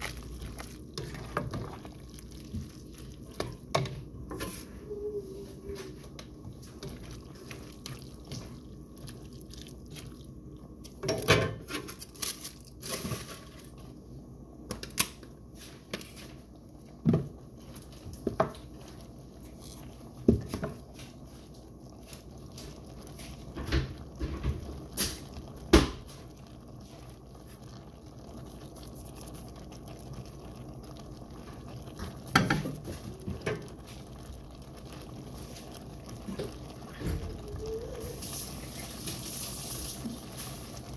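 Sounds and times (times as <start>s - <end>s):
food simmering in skillet: 0.0s - 40.9s.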